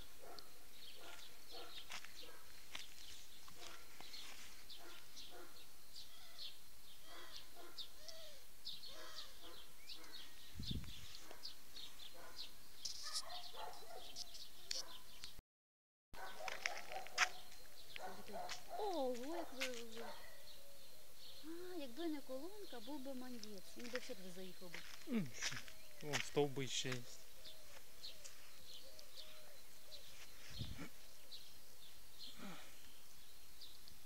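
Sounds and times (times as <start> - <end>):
birds chirping: 0.0 - 15.4, 16.2 - 34.0.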